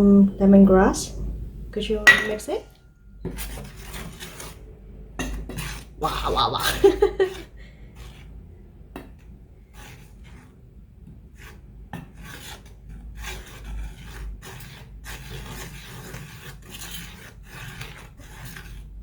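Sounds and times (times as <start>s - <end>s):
spoon stirring flour in a bowl: 3.2s - 19.0s.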